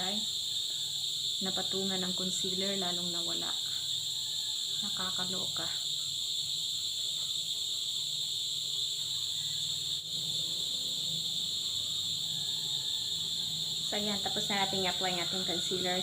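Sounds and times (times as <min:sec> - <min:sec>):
shrill insect chorus: 0:00.0 - 0:16.0.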